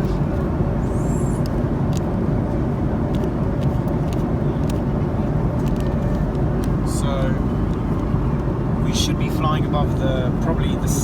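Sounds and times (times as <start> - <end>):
airliner cabin engine rush: 0.0 - 11.0.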